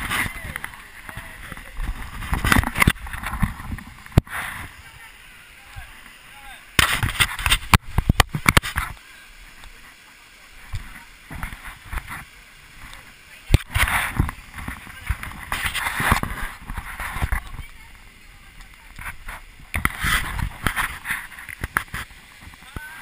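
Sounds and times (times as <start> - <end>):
faint voices: 0.0 - 23.0.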